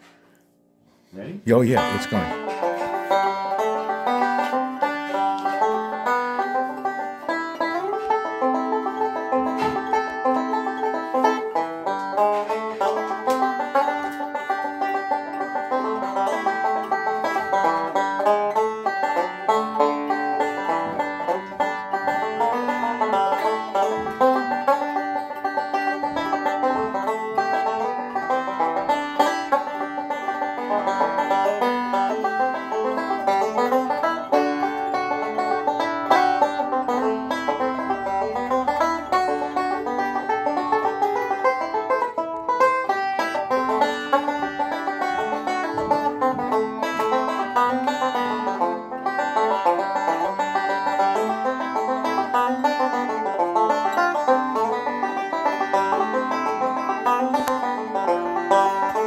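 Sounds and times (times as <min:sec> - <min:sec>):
banjo picking bluegrass tune: 0:01.4 - 0:59.0.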